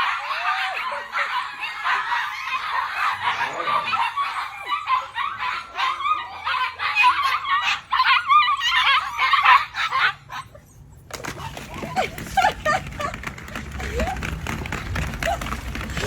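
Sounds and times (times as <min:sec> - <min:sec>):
puppies whining and squealing: 0:00.0 - 0:16.0.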